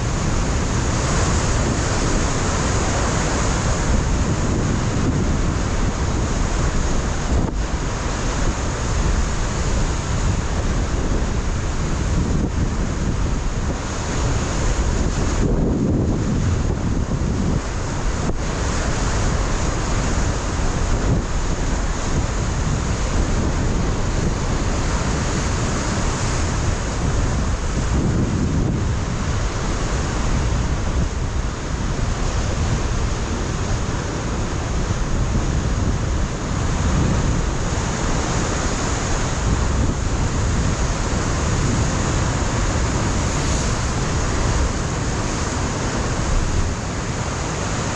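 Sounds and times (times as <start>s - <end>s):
surf breaking on rocky shore: 0.0s - 47.9s
wind buffeting microphone: 0.0s - 47.9s.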